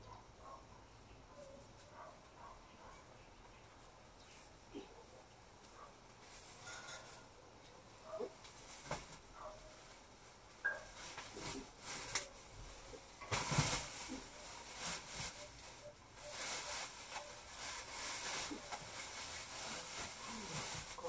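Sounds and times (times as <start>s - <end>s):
rustling: 1.3s - 21.0s.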